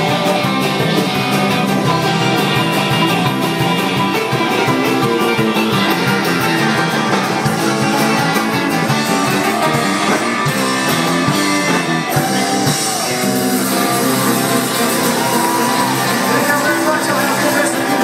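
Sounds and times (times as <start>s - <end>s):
guitar: 0.0s - 18.0s
live band with singing: 0.0s - 18.0s.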